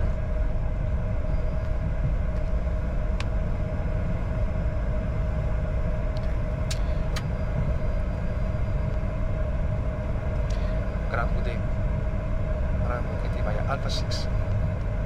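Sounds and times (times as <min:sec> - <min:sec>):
aircraft cockpit rumble: 0:00.0 - 0:15.0.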